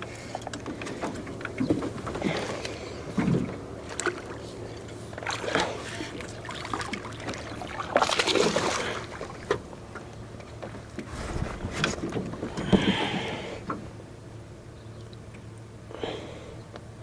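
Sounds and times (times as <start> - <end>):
knocks and clicks in a boat: 0.0 - 13.9
steady low hum: 0.0 - 17.0.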